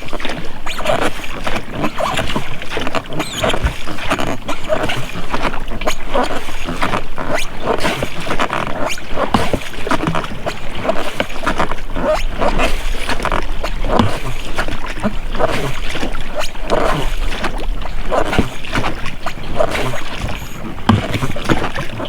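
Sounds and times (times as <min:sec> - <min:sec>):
oars squeaking in rowlocks: 0:00.0 - 0:22.0
water splashing from oars: 0:00.0 - 0:22.0.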